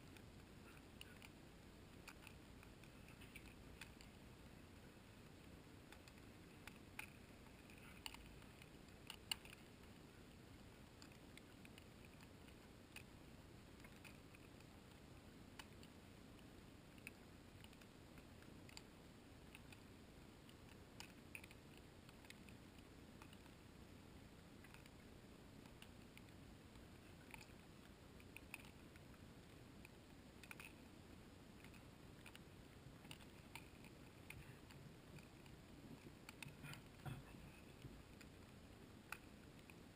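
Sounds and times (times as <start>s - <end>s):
faint clicks and ticks: 0.0s - 39.9s.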